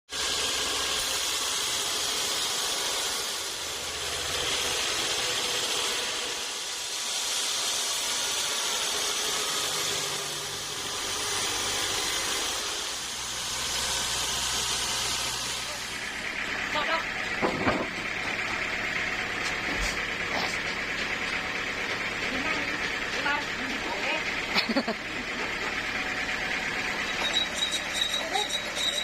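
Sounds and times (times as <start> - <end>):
saw cutting log: 0.1 - 29.0.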